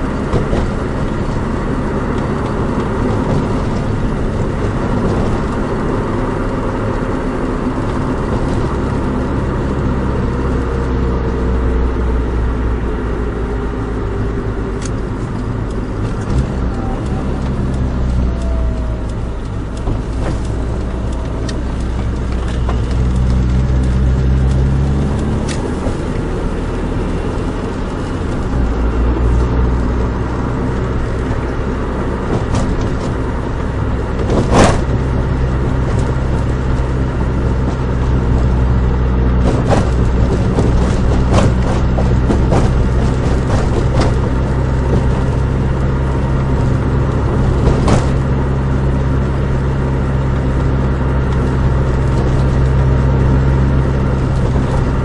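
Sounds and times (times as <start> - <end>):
car engine accelerating: 0.0 - 55.0
road noise: 0.0 - 55.0.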